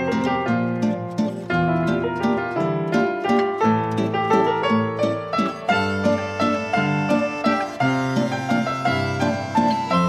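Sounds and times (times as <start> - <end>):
instrumental plucked music: 0.0 - 10.0.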